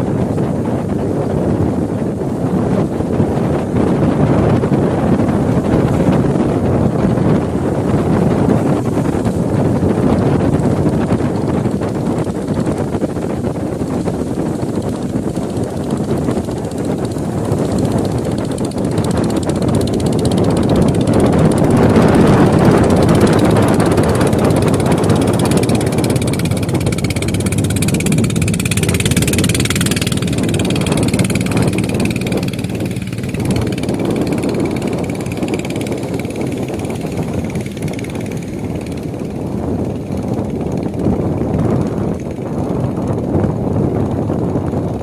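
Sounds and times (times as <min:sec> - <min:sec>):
boat engine running: 0:00.0 - 0:45.0
heavy wind noise: 0:00.0 - 0:45.0
rough water washing: 0:04.7 - 0:41.2.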